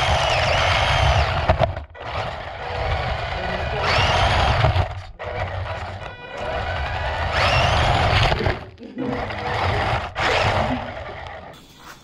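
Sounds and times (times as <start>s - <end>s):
electric motor whine: 0.0s - 11.6s
tyres rumbling on paving: 0.0s - 11.6s.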